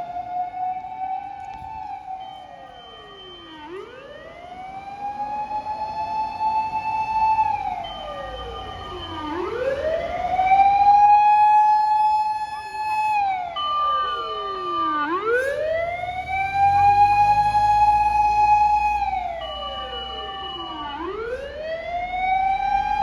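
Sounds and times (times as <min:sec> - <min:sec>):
fire engine siren wailing: 0:00.0 - 0:23.0.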